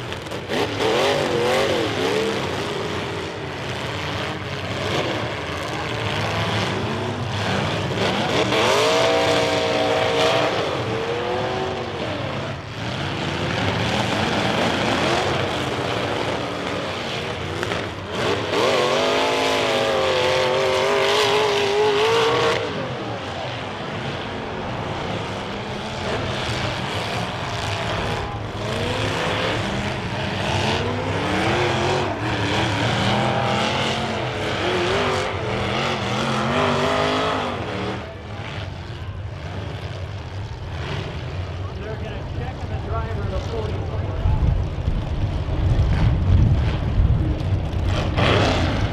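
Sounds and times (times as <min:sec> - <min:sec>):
car engines revving hard: 0:00.0 - 0:48.9.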